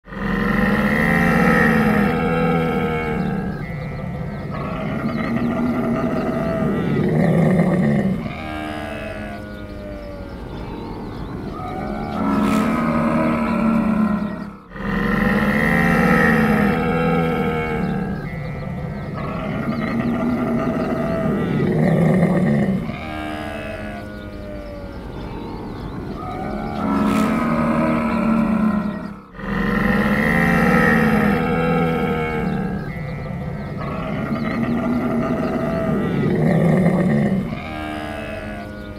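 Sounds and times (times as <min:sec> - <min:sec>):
camel groaning: 0:00.0 - 0:38.9.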